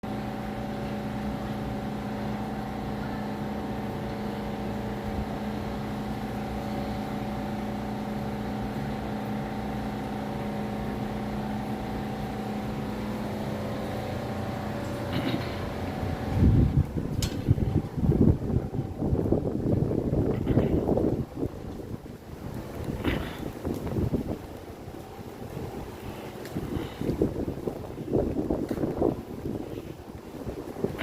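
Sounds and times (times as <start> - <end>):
motor running steadily: 0.0 - 31.0.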